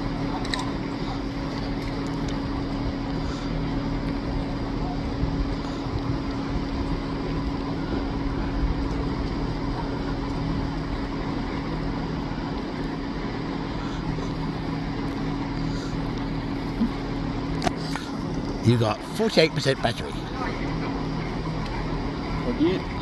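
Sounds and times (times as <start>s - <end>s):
electric train humming: 0.0s - 23.0s.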